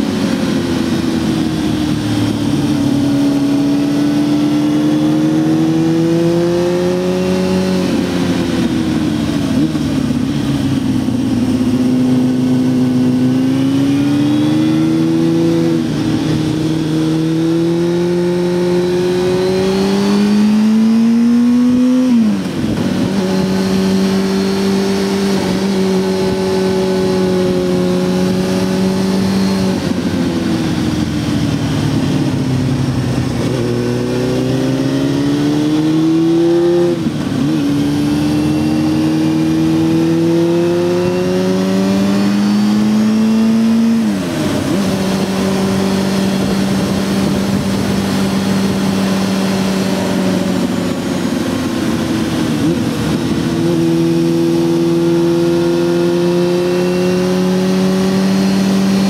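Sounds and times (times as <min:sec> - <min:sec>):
motorcycle engine while riding: 0:00.0 - 0:59.0.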